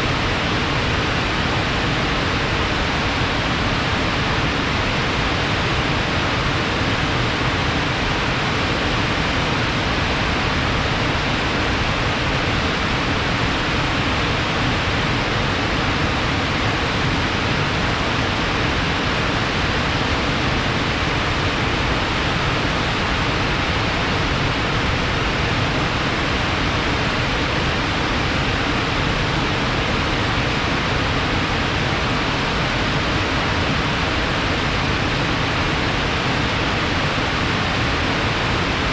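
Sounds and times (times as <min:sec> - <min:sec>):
water rushing fast: 0:00.0 - 0:38.9.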